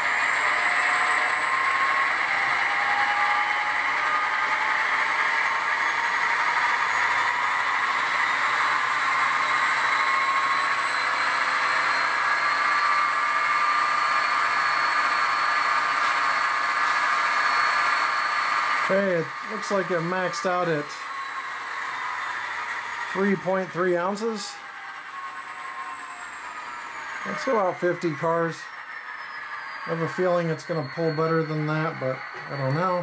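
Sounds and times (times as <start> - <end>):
model locomotive engine sound: 0.0 - 33.0
rising whine: 0.0 - 33.0.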